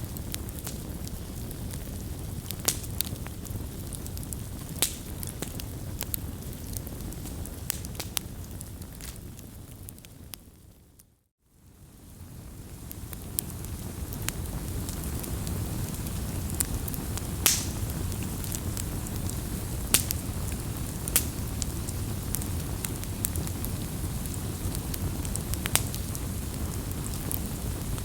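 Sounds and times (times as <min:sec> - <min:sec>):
campfire rumbling: 0:00.0 - 0:10.6, 0:11.6 - 0:28.0
fire crackles and pops: 0:00.0 - 0:28.0.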